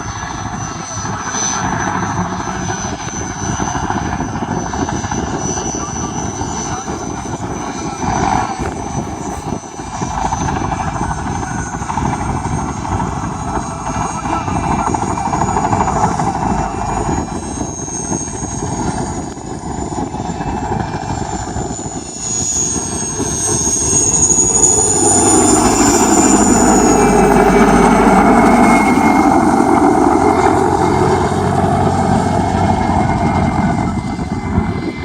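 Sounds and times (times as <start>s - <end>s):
helicopter engines and rotor: 0.0s - 35.0s
high turbine whine: 0.0s - 35.0s.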